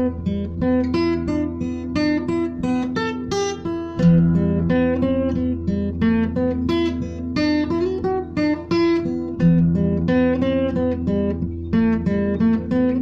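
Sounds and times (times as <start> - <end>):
picked acoustic guitar: 0.0 - 13.0.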